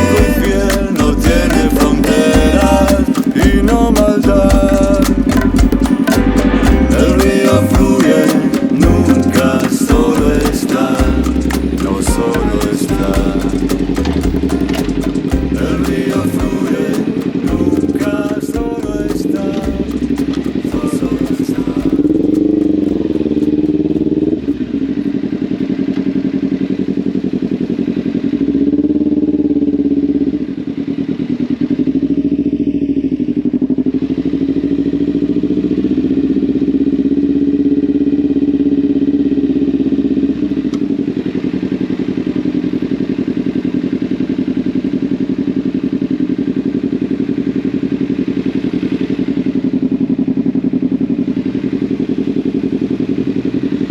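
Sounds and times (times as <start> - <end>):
motorcycle engine accelerating: 8.8 - 53.9.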